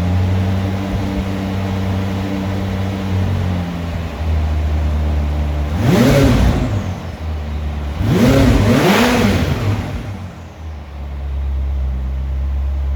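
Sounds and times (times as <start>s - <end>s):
sports car engine idling and revving: 0.0s - 12.9s.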